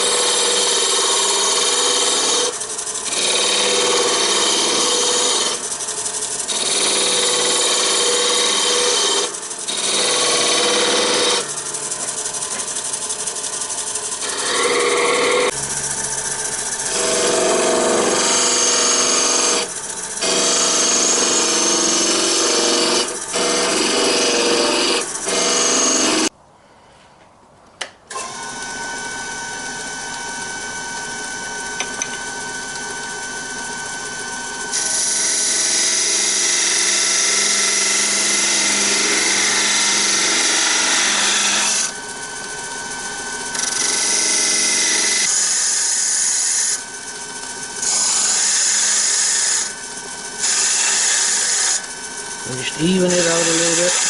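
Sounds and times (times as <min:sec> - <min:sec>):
chisel cutting wood on lathe: 0:00.0 - 0:26.3, 0:28.1 - 0:54.0
lathe humming: 0:00.0 - 0:26.3, 0:28.1 - 0:54.0.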